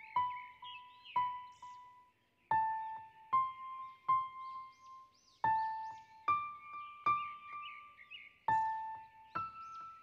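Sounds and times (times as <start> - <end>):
slow piano notes ringing: 0.0 - 10.0.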